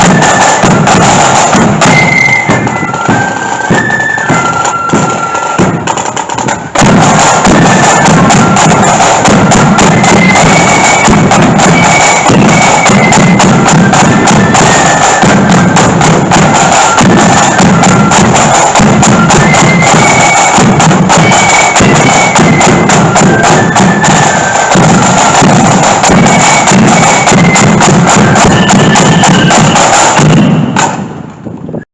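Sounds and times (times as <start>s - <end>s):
flutes playing a high melody: 0.0s - 31.0s
snare drum rolls: 0.0s - 31.6s
bass drum: 5.0s - 31.1s.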